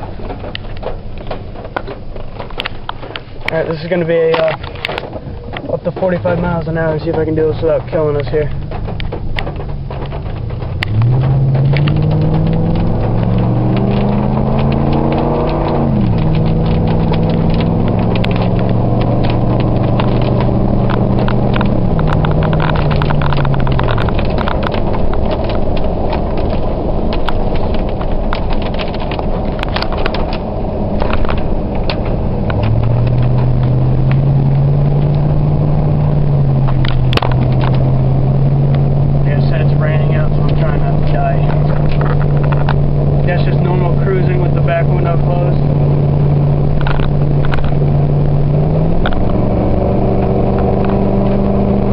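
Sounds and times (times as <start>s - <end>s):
truck engine accelerating: 0.0s - 51.9s.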